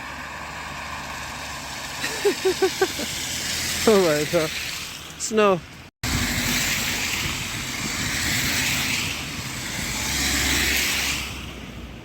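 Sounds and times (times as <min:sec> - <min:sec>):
low car engine: 0:00.0 - 0:12.0
tyres on snow and slush: 0:00.0 - 0:12.0.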